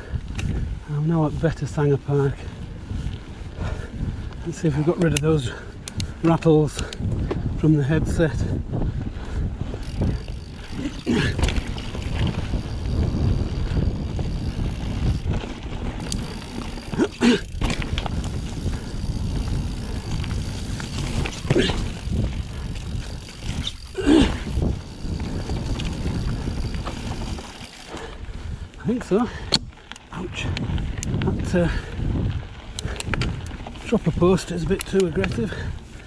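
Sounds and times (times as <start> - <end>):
bike tyres rumbling: 0.0 - 36.0.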